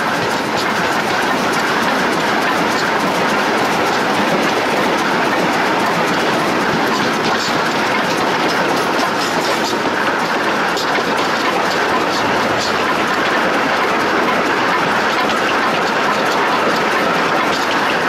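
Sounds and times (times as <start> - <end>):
steam locomotive running gear: 0.0 - 18.0.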